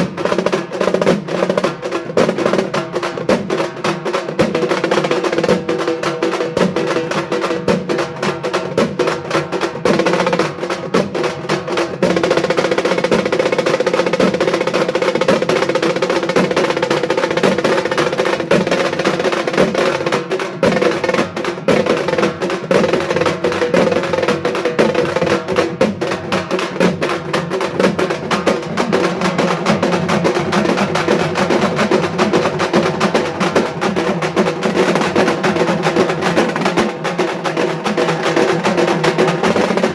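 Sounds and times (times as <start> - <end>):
frame drums beaten with sticks: 0.0 - 39.9.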